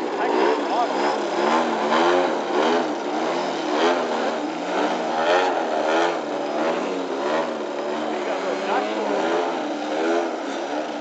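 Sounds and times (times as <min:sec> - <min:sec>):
model airplane engine and propeller: 0:00.0 - 0:11.0.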